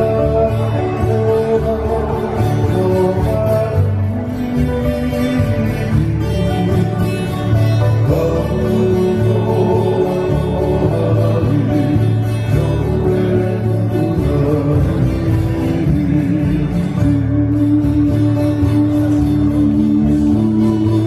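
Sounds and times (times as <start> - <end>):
men singing: 0.0 - 4.2, 4.9 - 21.0
electric bass line: 0.0 - 21.0
strummed acoustic guitar: 0.0 - 21.0
ukulele: 0.0 - 21.0.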